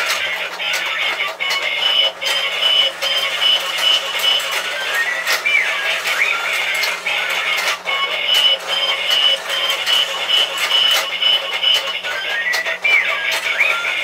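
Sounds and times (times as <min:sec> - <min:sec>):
bright tune with steady beat: 0:00.0 - 0:14.0.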